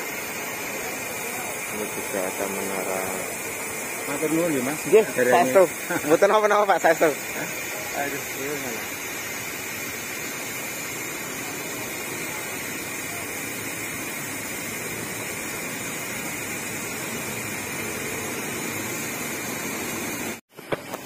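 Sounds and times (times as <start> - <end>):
rushing roadside noise: 0.0 - 21.0.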